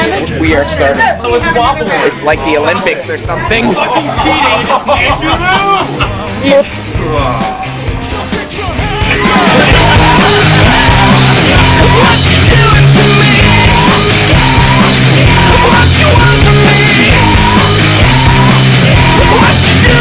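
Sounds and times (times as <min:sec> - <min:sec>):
loud punk rock music: 0:01.0 - 0:20.0.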